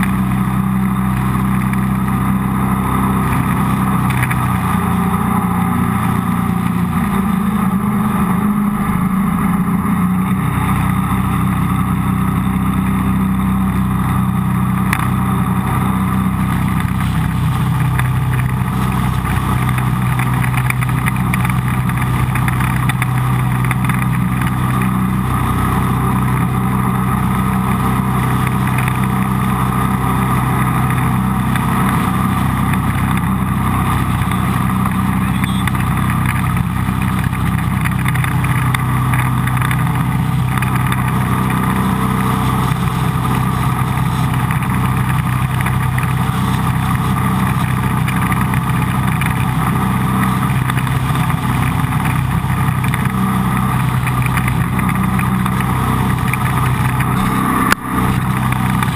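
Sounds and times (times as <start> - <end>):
boat engine running: 0.0 - 58.9.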